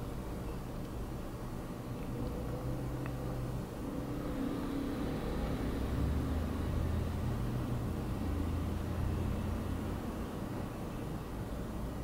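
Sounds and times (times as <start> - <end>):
cooling fan whirring: 0.0 - 12.0.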